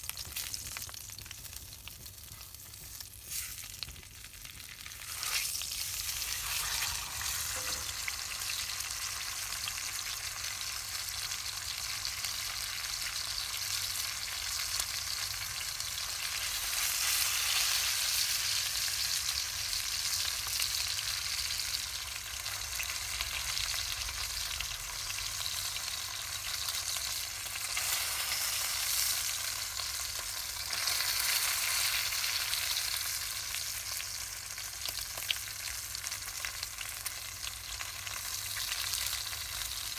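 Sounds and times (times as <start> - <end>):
pork sizzling over campfire: 0.0 - 39.9.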